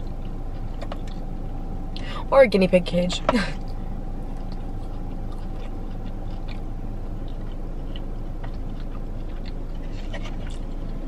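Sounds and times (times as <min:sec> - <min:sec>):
person chewing soft food: 0:00.0 - 0:02.0, 0:03.6 - 0:11.0
steady low hum: 0:00.0 - 0:11.0.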